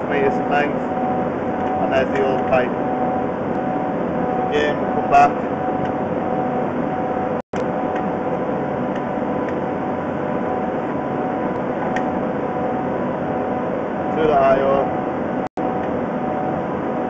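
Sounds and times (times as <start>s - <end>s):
faint steady tones: 0.0s - 17.0s
machine hum and hiss: 0.0s - 17.0s.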